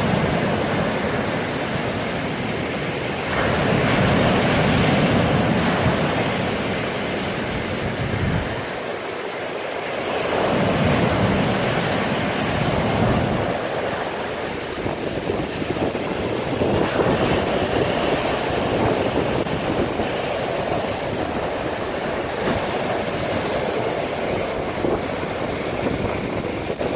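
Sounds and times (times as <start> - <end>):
wind buffeting microphone: 0.0 - 9.0, 10.3 - 26.9
waves crashing on beach: 0.0 - 26.9.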